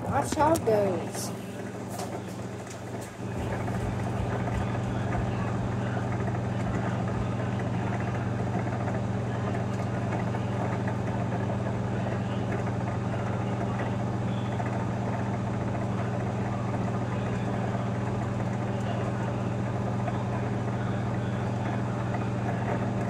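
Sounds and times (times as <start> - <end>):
microwave oven humming: 0.0 - 23.0.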